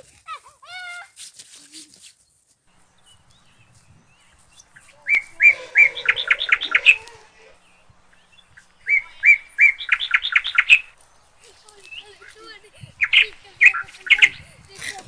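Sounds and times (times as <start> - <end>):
songbird singing: 2.7 - 15.0.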